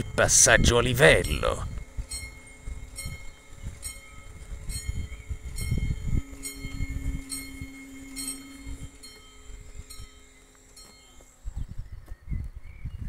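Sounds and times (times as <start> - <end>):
level crossing warning bell: 0.0 - 11.4
low rumbling: 0.0 - 12.8
steady low hum: 0.0 - 13.0.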